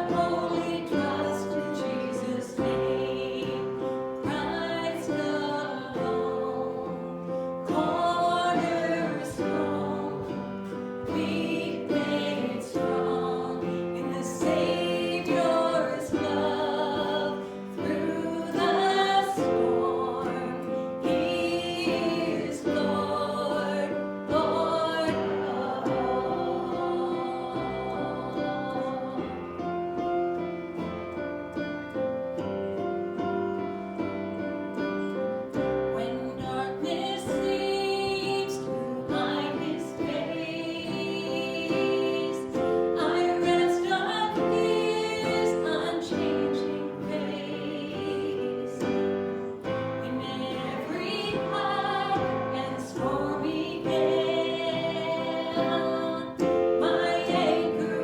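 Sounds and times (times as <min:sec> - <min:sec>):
group singing worship song: 0:00.0 - 0:31.2, 0:35.0 - 0:58.0
keyboard accompaniment: 0:00.0 - 0:58.0.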